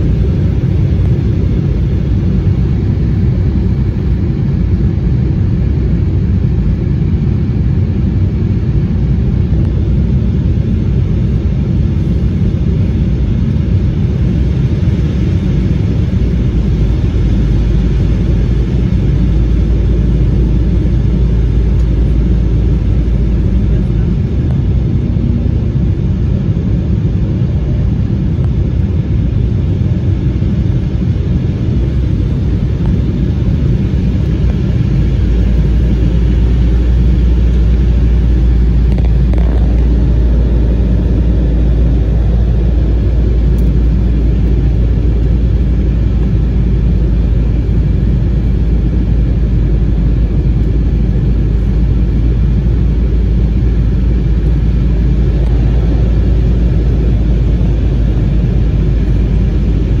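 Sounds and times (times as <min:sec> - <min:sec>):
deep rumble: 0:00.0 - 1:00.0
rush of airflow: 0:00.0 - 1:00.0
turbofan engines droning: 0:00.0 - 1:00.0.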